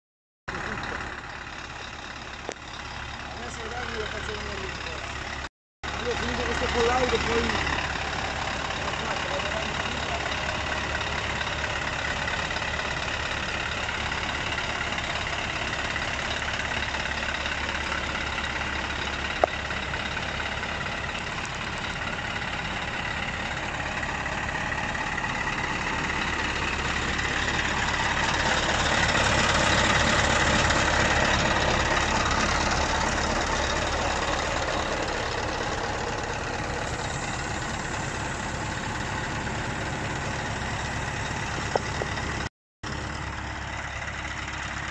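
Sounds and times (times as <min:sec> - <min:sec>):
diesel engine idling: 0:00.5 - 0:44.9.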